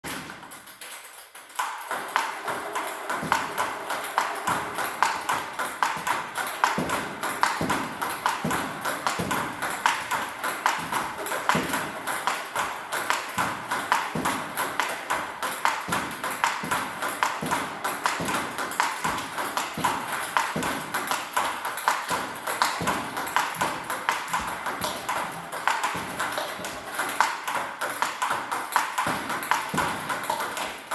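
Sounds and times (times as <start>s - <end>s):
balls clicking off paddles: 0.0s - 30.9s
balls bouncing on table: 0.1s - 30.9s.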